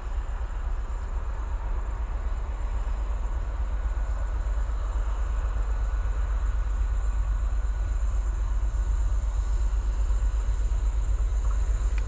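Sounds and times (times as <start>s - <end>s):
diesel locomotive rumbling: 0.0s - 12.0s.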